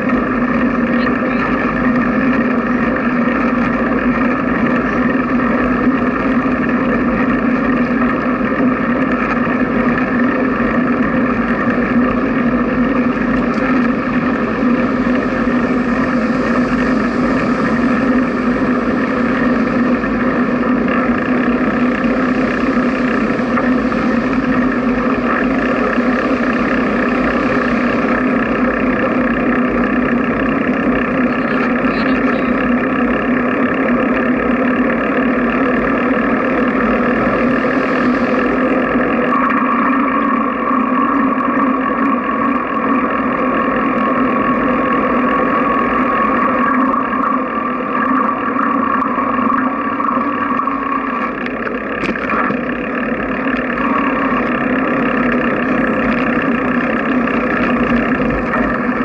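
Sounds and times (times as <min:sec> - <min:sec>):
constant hum: 0:00.0 - 0:59.0.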